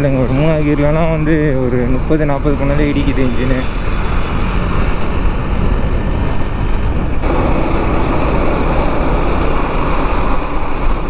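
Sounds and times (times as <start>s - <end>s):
motorcycle wind and road noise: 0.0s - 11.0s
surrounding traffic: 0.0s - 11.0s.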